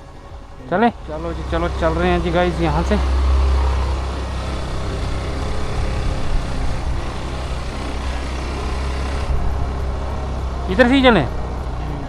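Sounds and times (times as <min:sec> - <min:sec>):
scooter engine running: 0:00.3 - 0:12.0.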